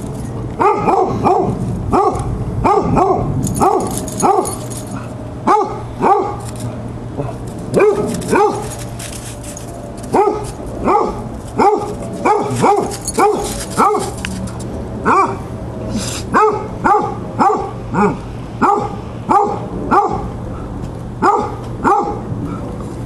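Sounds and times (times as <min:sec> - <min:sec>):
dogs barking: 0:00.6 - 0:09.0, 0:10.0 - 0:14.4, 0:15.0 - 0:15.6, 0:16.3 - 0:22.7.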